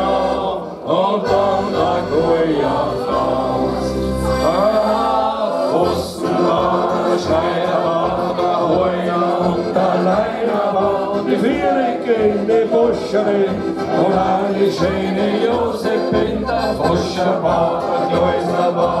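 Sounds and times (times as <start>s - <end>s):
group of people singing: 0.0s - 19.0s.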